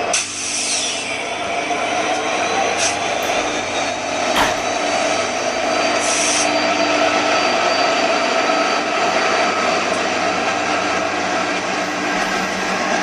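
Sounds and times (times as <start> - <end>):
train wheels rolling on rails: 0.7 - 13.0.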